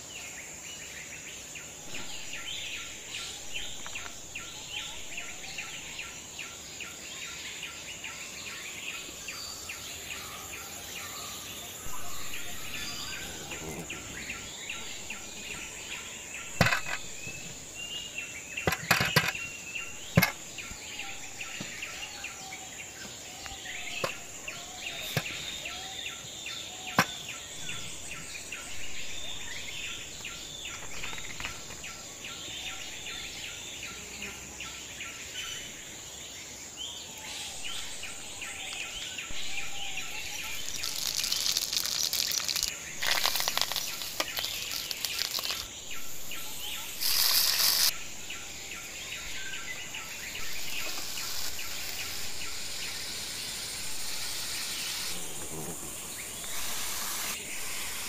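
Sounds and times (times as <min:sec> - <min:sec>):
birds chirping: 0:00.0 - 0:58.0
insect buzz: 0:00.0 - 0:58.0.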